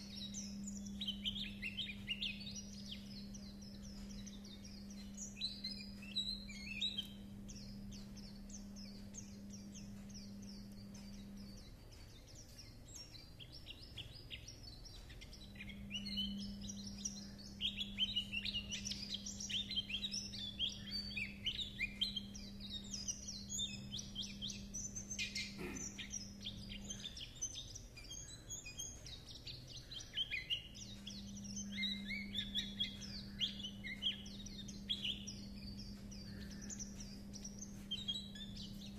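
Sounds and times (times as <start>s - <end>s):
bird twittering chatter song: 0.0s - 38.9s
steady low hum: 0.0s - 38.9s.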